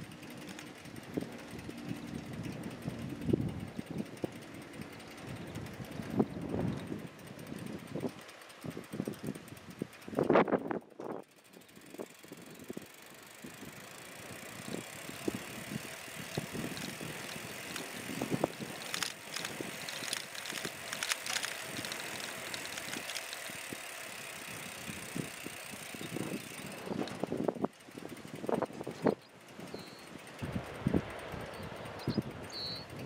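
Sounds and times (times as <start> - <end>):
bicycle frame rattling: 0.0 - 33.0
bicycle tyre noise: 0.0 - 33.0.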